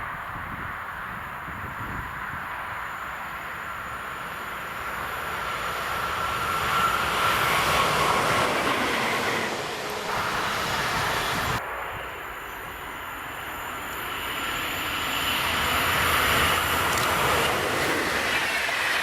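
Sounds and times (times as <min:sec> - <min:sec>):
locomotive passing on rails: 0:00.1 - 0:19.0.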